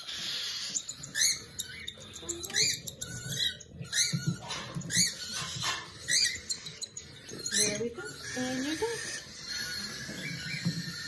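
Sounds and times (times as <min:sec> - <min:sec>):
cockatiel chicks begging calls: 0:00.0 - 0:11.0.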